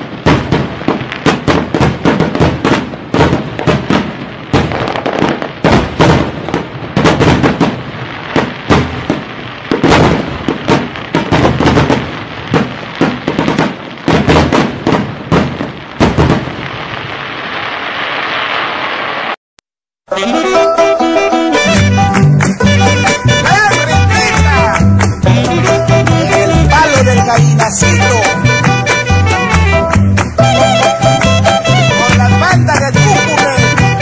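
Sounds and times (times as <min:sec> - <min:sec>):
fireworks bursting with sharp bangs: 0:00.0 - 0:19.4, 0:20.1 - 0:34.0.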